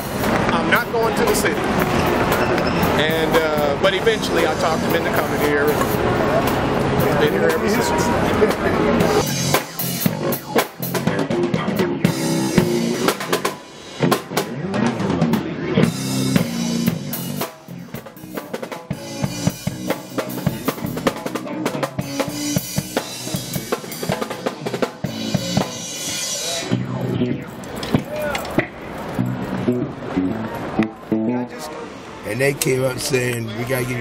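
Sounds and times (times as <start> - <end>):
drum kit playing a beat: 0.0 - 31.2
electric bass guitar: 0.0 - 31.8.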